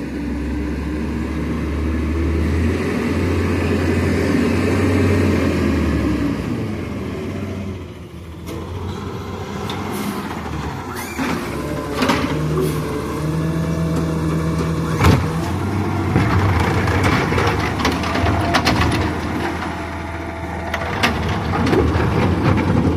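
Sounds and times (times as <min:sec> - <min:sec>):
truck diesel engine running: 0:00.0 - 0:22.9.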